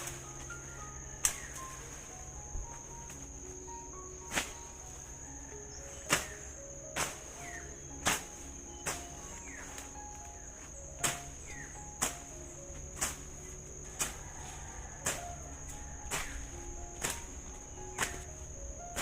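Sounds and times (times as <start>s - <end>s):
hand tool chopping ground: 0.0s - 2.1s, 4.3s - 5.2s, 5.8s - 19.0s
insects droning: 0.0s - 19.0s.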